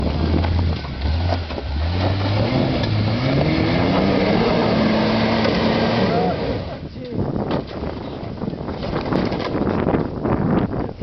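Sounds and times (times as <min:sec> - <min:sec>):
car engine under load: 0:00.0 - 0:10.6.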